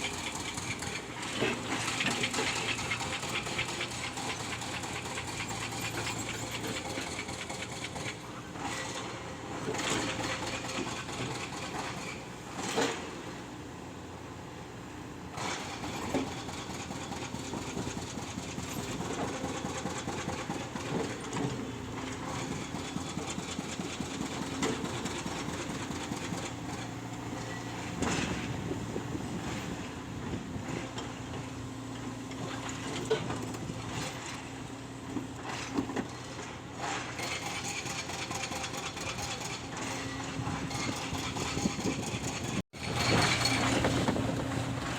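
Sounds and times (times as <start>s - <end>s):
excavator diesel engine running: 0.0s - 13.4s, 15.1s - 44.9s.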